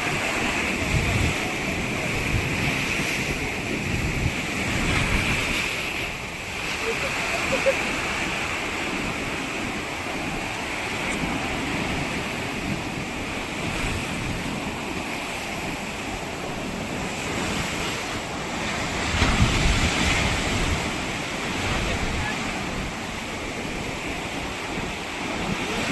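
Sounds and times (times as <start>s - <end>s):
surf washing onto beach: 0.0s - 25.9s
wind on microphone: 0.0s - 25.9s.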